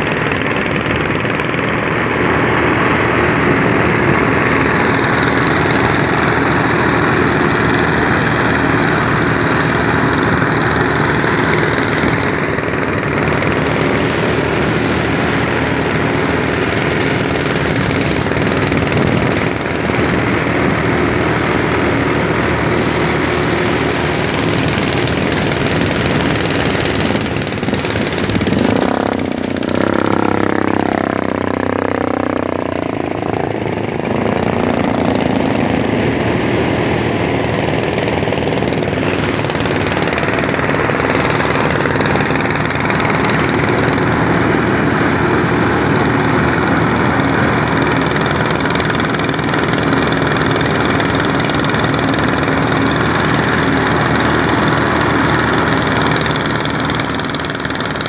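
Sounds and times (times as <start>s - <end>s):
small engine running: 0.0s - 58.0s
steady rushing noise: 0.0s - 58.0s.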